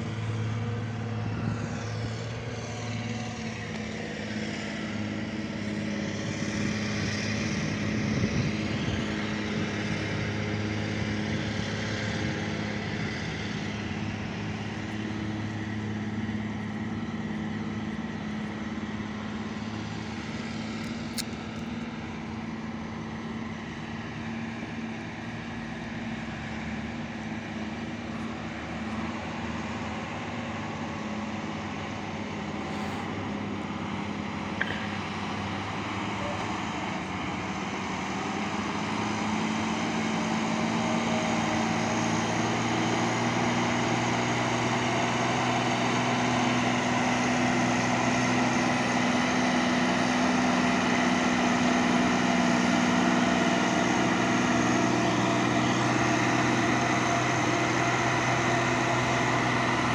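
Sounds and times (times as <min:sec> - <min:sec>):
excavator diesel engine: 0:00.0 - 0:59.9
truck engine under load: 0:00.0 - 0:59.9.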